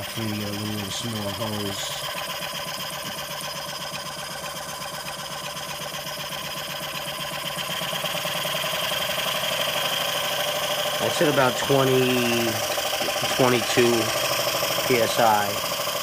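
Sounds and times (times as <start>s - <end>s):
model steam engine running fast: 0.0s - 16.0s.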